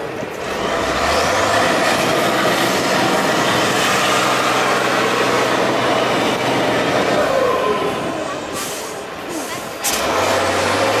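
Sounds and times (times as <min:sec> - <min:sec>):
diesel truck engine revving: 0:00.2 - 0:11.0.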